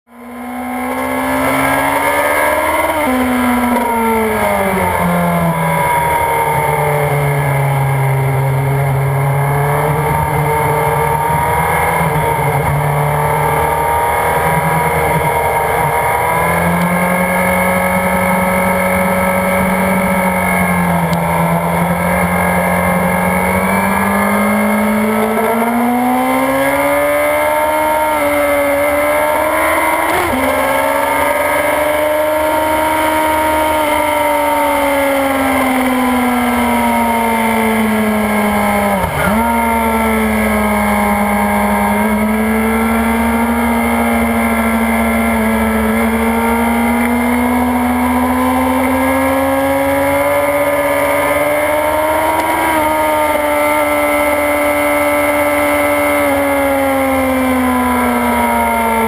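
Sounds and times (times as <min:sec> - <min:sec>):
motorcycle engine accelerating: 0:00.1 - 0:59.0.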